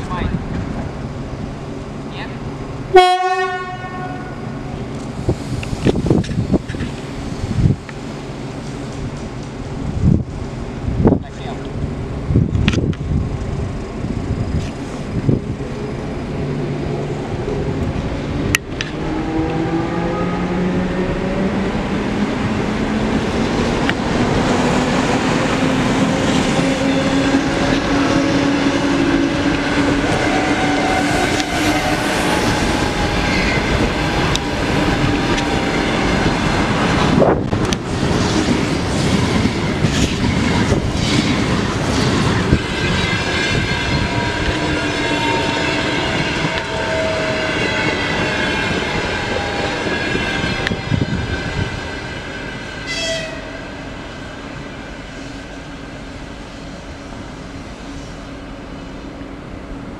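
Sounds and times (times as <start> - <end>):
electric locomotive whine: 0.0 - 59.9
passing electric train whine: 0.0 - 59.9.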